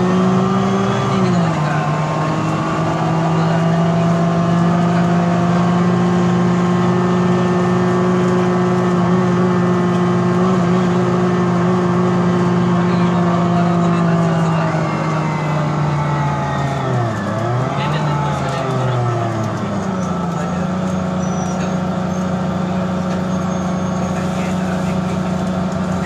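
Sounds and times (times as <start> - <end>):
bus drivetrain drone: 0.0 - 26.0.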